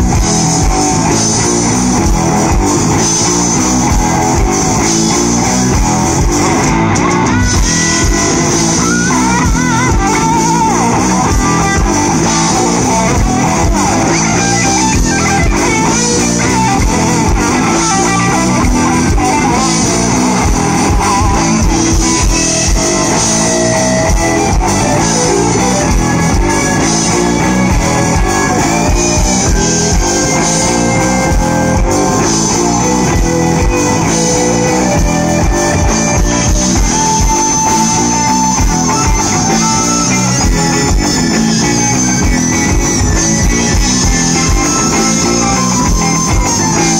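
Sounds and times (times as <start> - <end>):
bass guitar: 0.0 - 46.9
electric guitars: 0.0 - 46.9
live rock band playing: 0.0 - 46.9.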